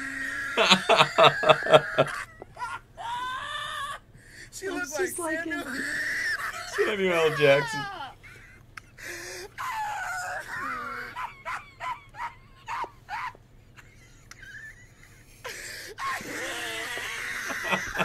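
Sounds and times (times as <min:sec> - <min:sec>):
person laughing: 0:00.3 - 0:03.2, 0:06.4 - 0:18.0.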